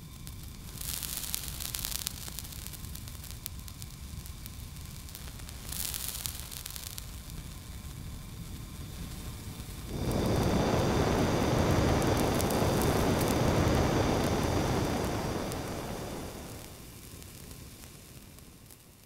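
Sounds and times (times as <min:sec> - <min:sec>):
torch flame roaring: 0:00.0 - 0:19.0.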